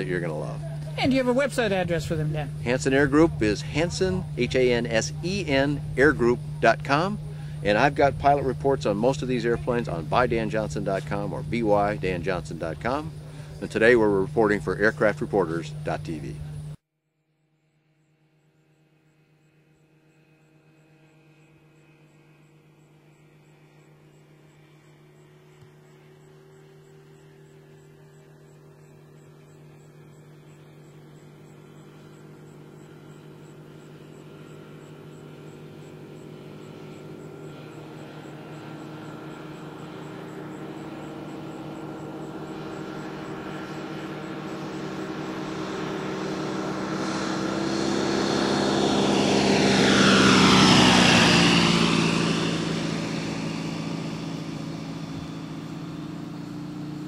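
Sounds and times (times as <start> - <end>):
propeller plane engine droning: 0.0 - 16.8, 17.4 - 57.0.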